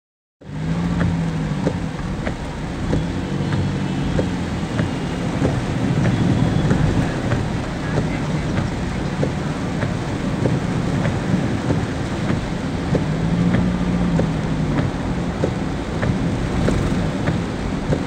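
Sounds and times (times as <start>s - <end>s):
rain hissing on windscreen: 0.4s - 18.0s
vehicle engine running: 0.4s - 18.0s.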